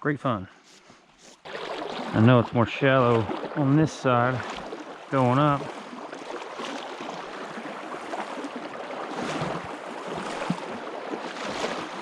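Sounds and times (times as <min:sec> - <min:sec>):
wading splashes: 0:01.3 - 0:12.0.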